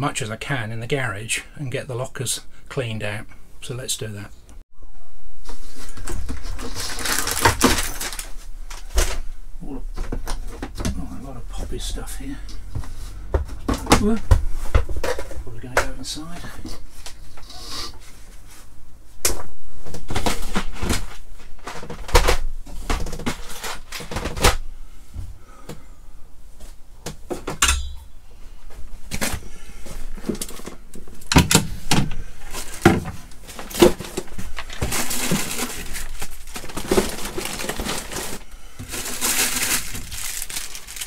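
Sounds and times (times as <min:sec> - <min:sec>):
rustling: 0:05.4 - 0:25.1, 0:26.5 - 0:41.0.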